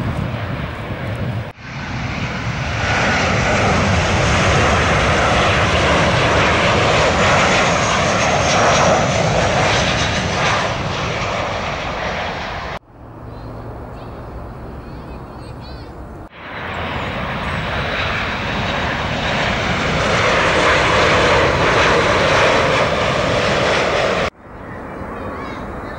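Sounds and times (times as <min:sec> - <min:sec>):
jet engines roaring: 0:00.0 - 0:25.9.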